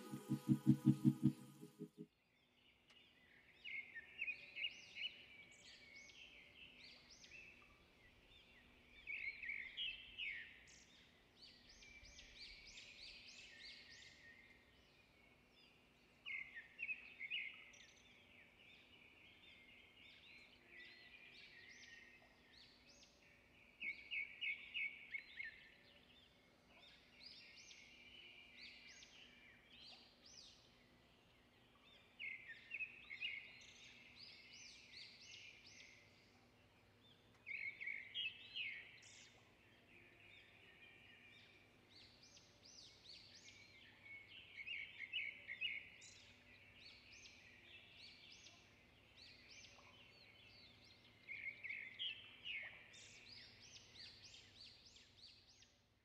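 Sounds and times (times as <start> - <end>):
small birds chirping: 2.5 - 55.8.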